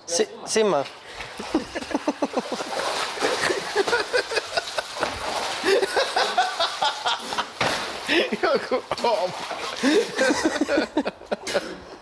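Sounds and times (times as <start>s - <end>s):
water splashing: 0.6s - 11.6s.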